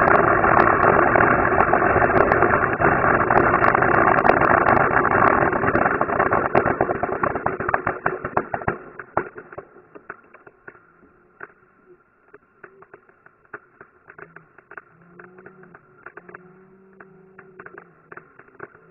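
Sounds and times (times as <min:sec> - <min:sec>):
firecrackers crackling: 0:00.0 - 0:18.9.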